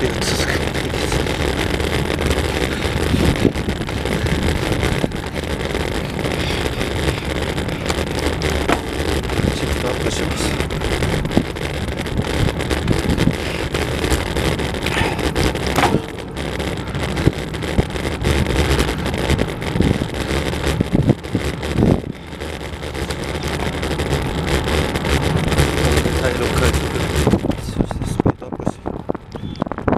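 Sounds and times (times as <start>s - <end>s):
bumps: 0.0s - 28.0s
road rumble: 0.0s - 29.9s
wind rushing over microphone: 0.0s - 29.9s.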